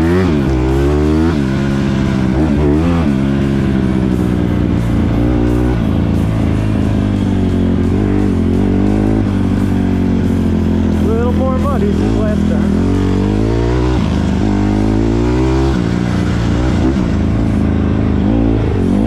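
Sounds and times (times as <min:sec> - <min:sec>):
background music: 0:00.0 - 0:19.0
dirt bike engine revving: 0:00.0 - 0:19.0.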